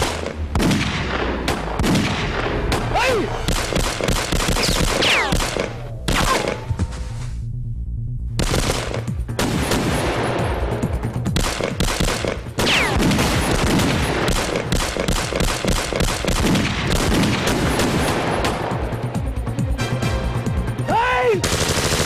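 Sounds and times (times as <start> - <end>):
rapid gunfire: 0.0 - 6.7, 8.4 - 18.9, 21.4 - 22.0
background music: 0.0 - 22.0.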